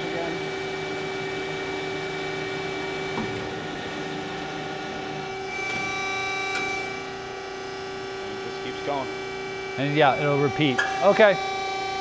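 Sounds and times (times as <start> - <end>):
band saw machine whine: 0.0 - 12.0
higher whine: 1.0 - 12.0.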